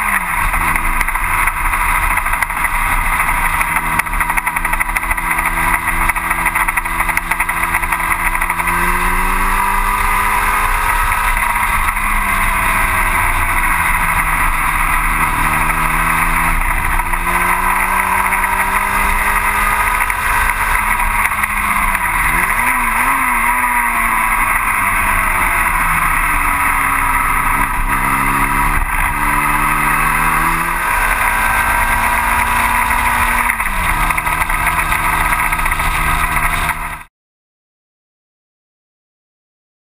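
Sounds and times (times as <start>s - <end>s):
racing car engine: 0.0s - 37.1s.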